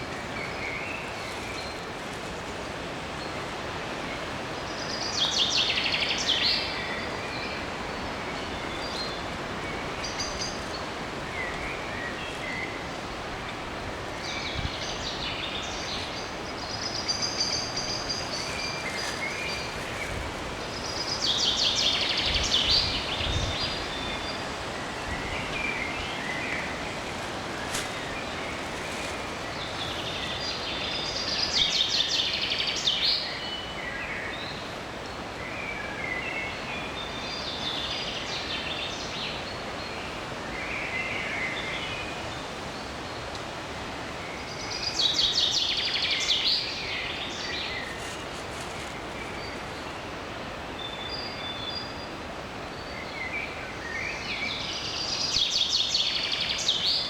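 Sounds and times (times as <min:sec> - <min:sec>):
steady background hiss: 0:00.0 - 0:57.0
songbird singing: 0:03.0 - 0:57.0.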